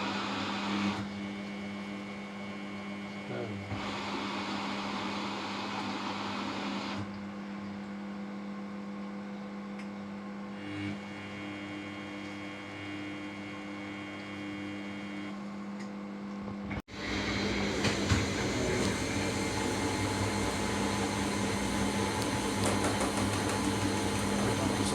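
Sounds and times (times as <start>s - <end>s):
washing machine motor hum: 0.0s - 9.8s, 10.4s - 24.9s.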